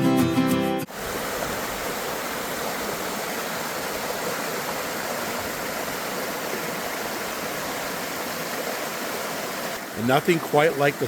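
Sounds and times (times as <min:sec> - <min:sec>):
stream rushing over rocks: 0:00.9 - 0:11.0.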